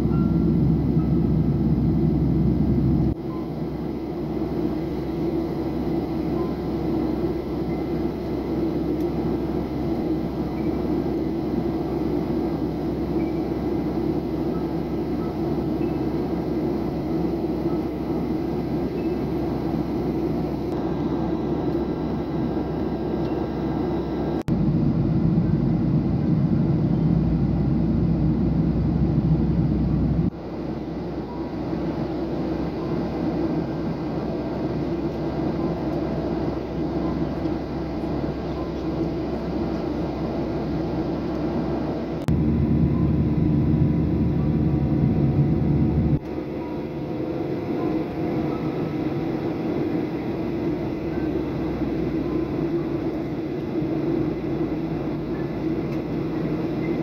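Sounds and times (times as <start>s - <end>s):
jet engine rumble in cabin: 0.0s - 57.0s.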